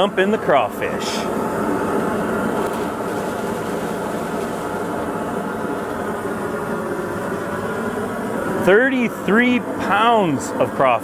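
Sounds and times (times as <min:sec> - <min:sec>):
propane burner rushing: 0:00.0 - 0:11.0.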